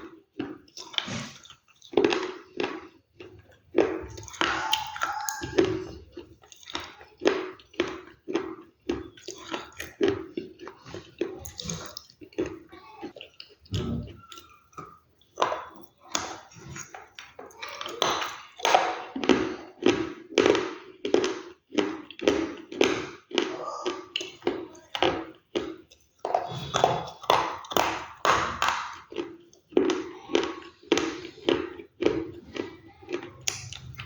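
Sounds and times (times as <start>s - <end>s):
chewing crunchy food: 0.0s - 34.0s.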